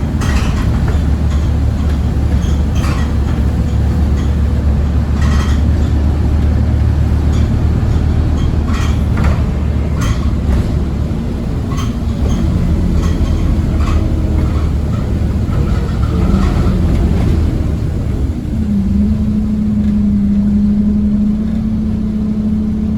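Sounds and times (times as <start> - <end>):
bus engine and road rumble: 0.0 - 22.9.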